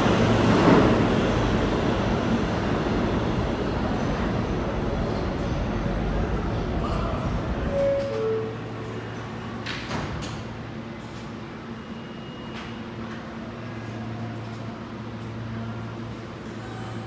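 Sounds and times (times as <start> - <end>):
subway train low hum: 0.0 - 17.0.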